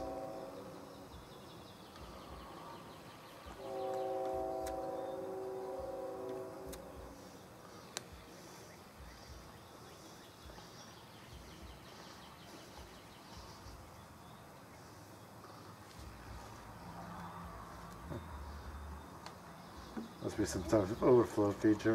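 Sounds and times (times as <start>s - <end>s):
steady pitched hum: 0.0s - 20.1s.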